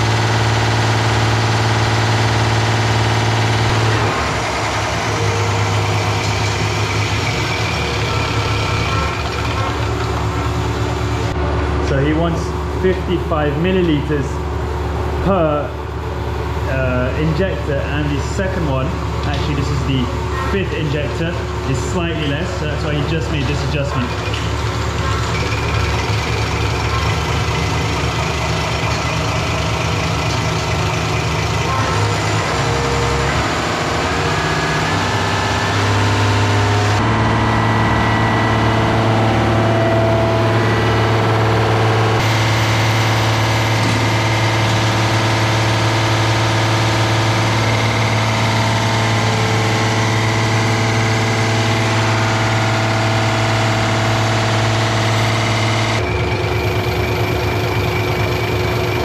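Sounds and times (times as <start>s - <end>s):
injection pump test bench drone: 0.0s - 59.0s.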